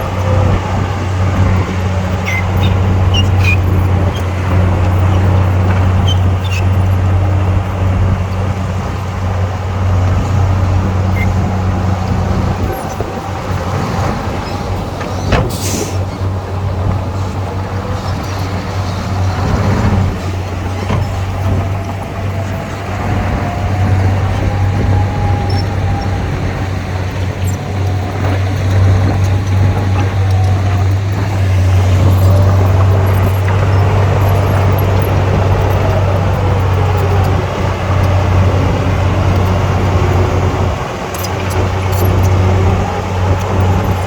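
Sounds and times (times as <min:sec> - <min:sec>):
diesel engine drone under load: 0:00.0 - 0:44.0.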